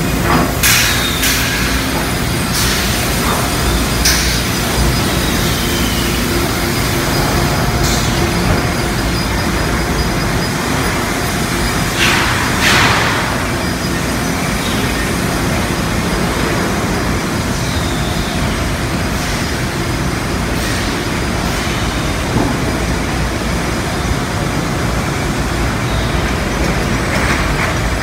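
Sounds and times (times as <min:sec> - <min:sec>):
factory machinery din: 0:00.0 - 0:28.0.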